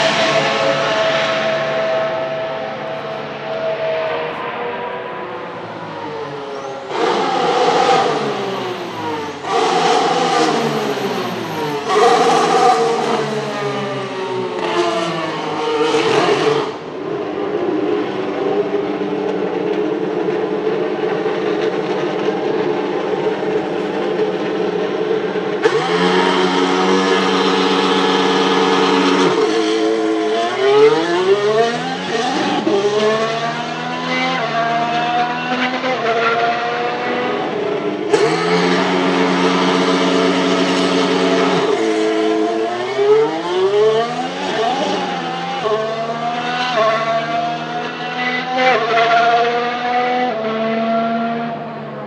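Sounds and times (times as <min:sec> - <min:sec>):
race car engine revving and launching: 0:00.0 - 0:51.9.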